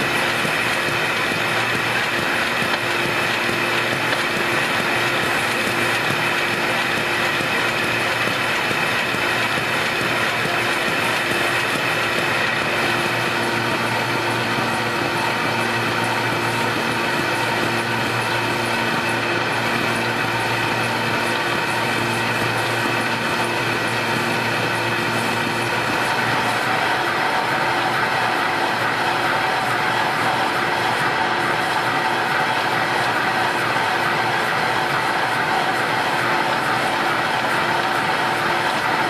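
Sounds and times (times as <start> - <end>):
rhythmic machine ticking: 0.0 - 38.2
paper folding machine humming: 0.0 - 39.0.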